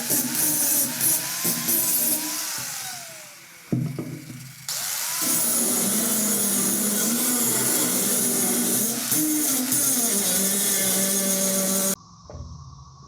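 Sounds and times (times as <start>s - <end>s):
electric power tool on metal: 0.0s - 12.0s.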